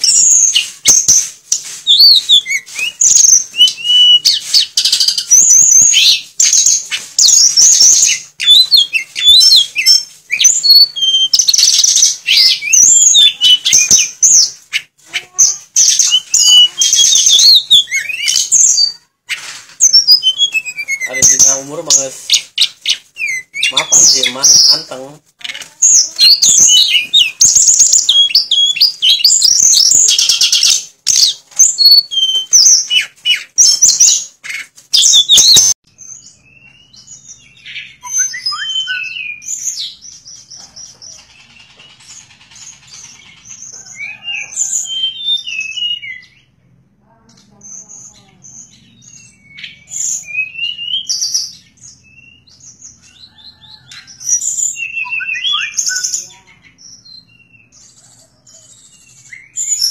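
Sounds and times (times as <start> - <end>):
bird singing high whistled notes: 0.0 - 14.9, 15.8 - 19.0, 19.8 - 24.8, 26.0 - 46.5, 47.7 - 59.9.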